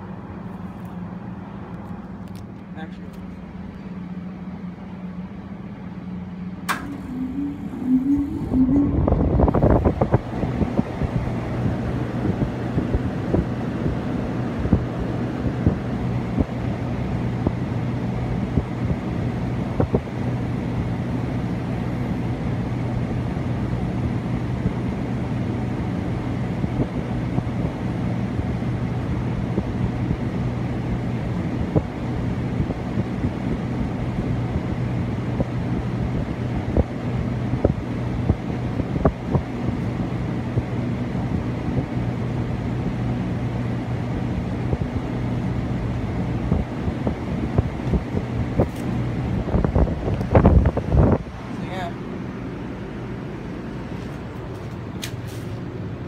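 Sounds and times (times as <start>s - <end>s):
air conditioner fan humming: 0.0s - 56.0s.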